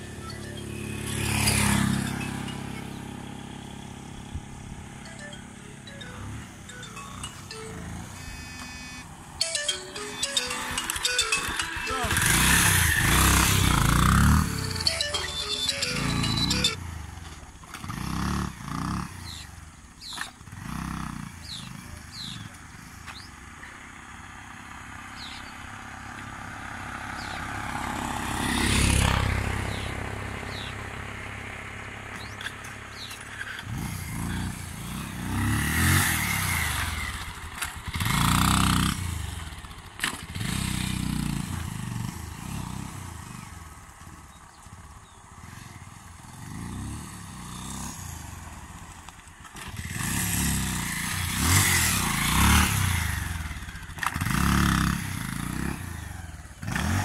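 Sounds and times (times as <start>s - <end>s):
motorcycle engine revving: 0.1s - 5.1s, 11.9s - 14.9s, 15.8s - 57.0s.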